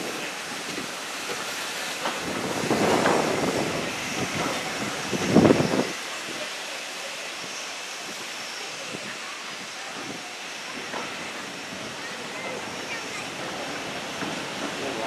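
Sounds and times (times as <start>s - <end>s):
train coaches clattering: 0.0s - 15.0s
wheels hissing on rails: 0.0s - 15.0s.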